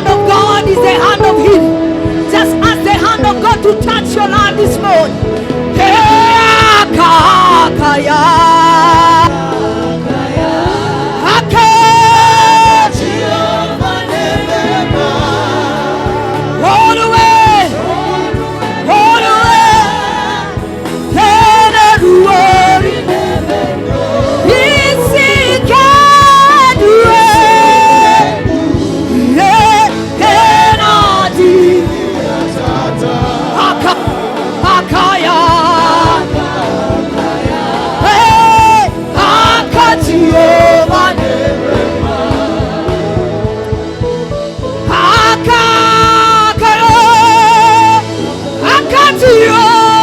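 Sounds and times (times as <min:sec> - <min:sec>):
lead vocalist singing: 0:00.0 - 0:50.0
sustained instrumental accompaniment: 0:00.0 - 0:50.0
choir singing: 0:04.3 - 0:50.0.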